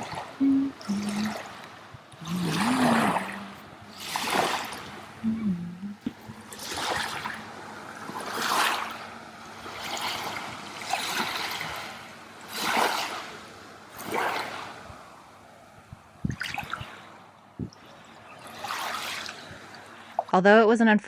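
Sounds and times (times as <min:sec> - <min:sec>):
water splashing in surges: 0:00.0 - 0:20.4.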